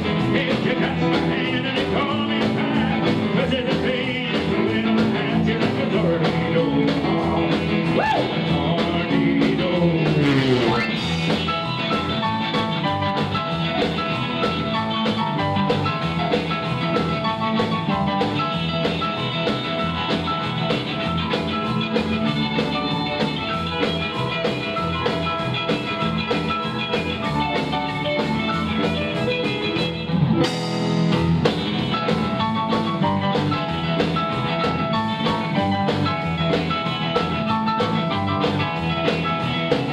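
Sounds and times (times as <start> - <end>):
live rock and roll band: 0.0 - 39.9
sliding bass run: 0.0 - 39.9.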